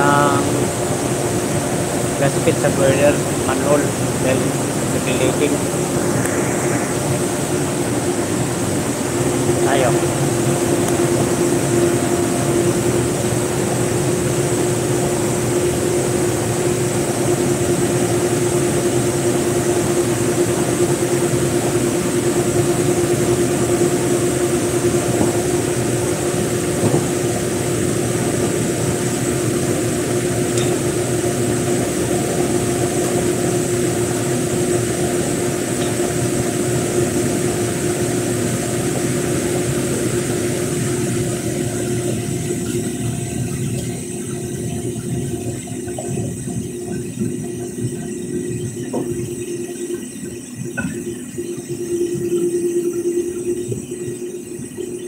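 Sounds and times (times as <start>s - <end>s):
machinery humming: 0.0s - 55.0s
thin high whine: 0.0s - 55.0s.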